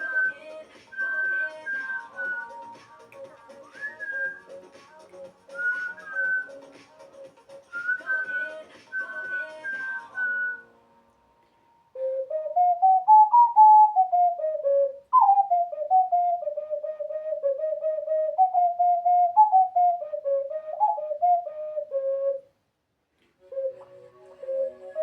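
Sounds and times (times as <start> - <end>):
ocarina melody: 0.0 - 22.5, 23.4 - 25.0.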